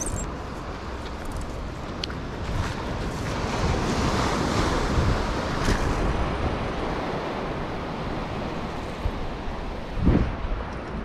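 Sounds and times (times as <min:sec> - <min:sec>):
ocean surf: 0:00.0 - 0:11.0
wind rumbling on microphone: 0:00.0 - 0:11.0.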